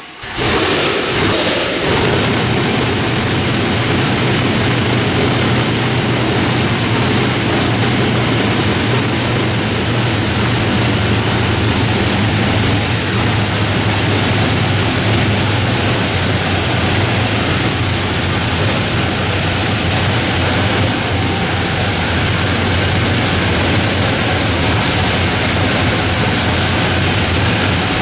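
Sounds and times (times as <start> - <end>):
propeller noise: 0.2 - 28.0
radial aircraft engine droning: 1.9 - 28.0.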